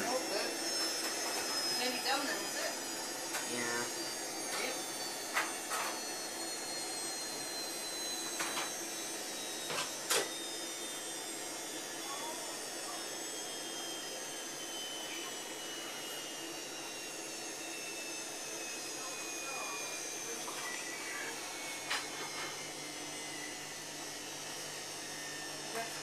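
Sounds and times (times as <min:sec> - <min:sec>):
washing machine drum whirring: 0:00.0 - 0:26.0.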